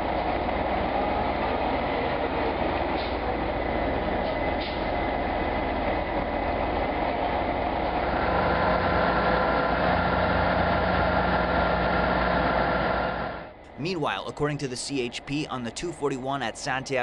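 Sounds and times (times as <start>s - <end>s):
heavy vehicle engine rumbling: 0.0s - 16.8s.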